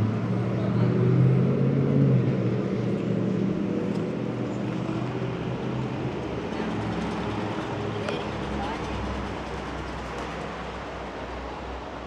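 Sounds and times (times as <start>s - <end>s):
passing vehicle engine drone: 0.0s - 10.8s
street traffic noise: 0.0s - 12.0s.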